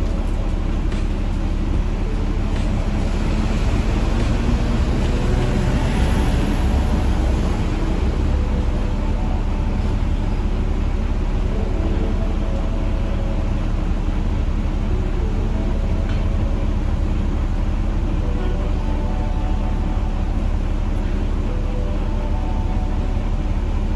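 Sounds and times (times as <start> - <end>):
bus diesel engine rumbling: 0.0 - 23.9
street traffic: 0.0 - 23.9.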